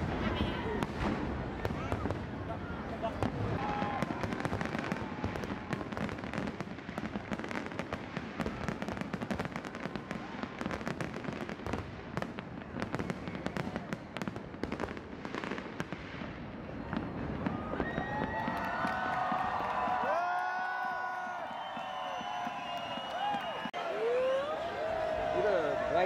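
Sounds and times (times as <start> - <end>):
fireworks cracks and bangs: 0.0 - 23.8.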